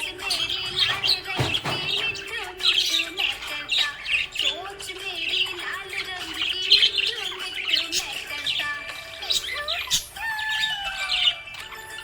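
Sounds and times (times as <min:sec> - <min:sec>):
budgerigars chirping and warbling: 0:00.0 - 0:12.0.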